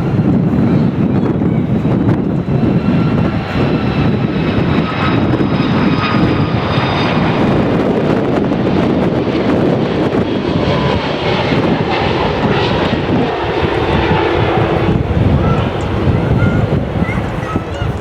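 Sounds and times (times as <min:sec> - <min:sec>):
faint high jet whine: 0:00.0 - 0:18.0
jet engines rumbling: 0:00.0 - 0:18.0.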